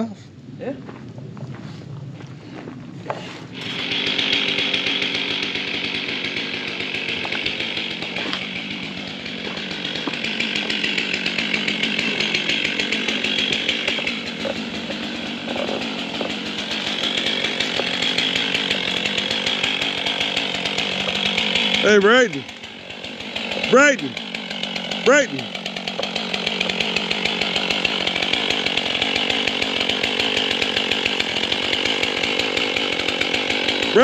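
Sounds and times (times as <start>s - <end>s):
chainsaw cutting log: 3.4s - 34.0s.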